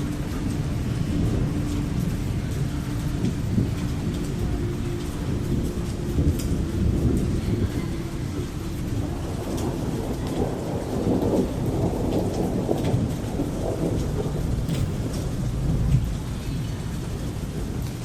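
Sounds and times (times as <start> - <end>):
low thunder rumble: 0.0 - 18.0
rain pattering: 0.0 - 18.0.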